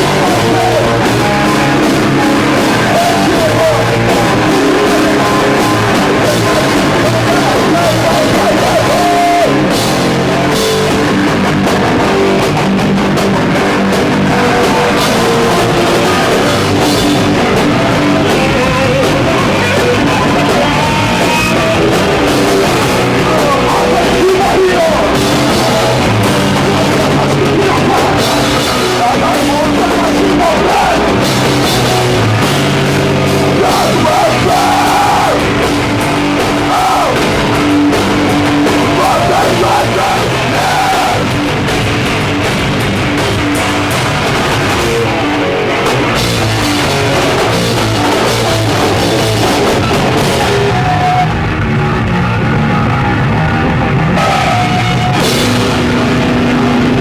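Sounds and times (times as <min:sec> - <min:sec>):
distorted guitars: 0:00.0 - 0:57.0
pounding drum kit: 0:00.0 - 0:57.0
punk vocals: 0:00.0 - 0:57.0.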